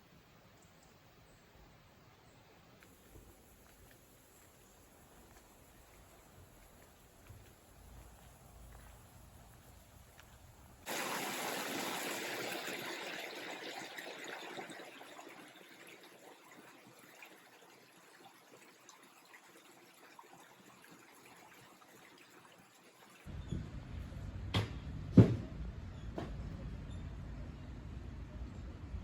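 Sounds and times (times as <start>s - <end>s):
running water of a stream: 0.0s - 23.3s.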